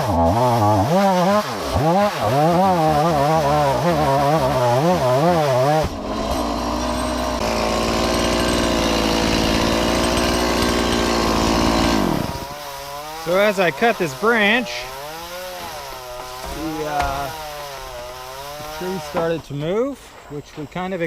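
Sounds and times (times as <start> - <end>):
chainsaw cutting wood: 0.0 - 20.3.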